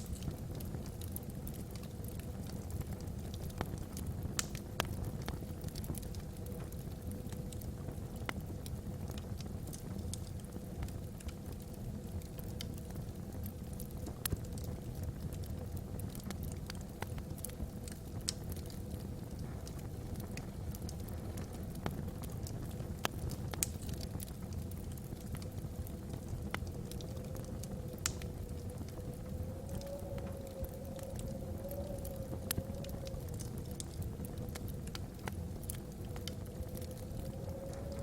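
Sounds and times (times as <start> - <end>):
wind howling through chimney: 0.0 - 38.0
wood fire crackling and popping: 0.0 - 38.0.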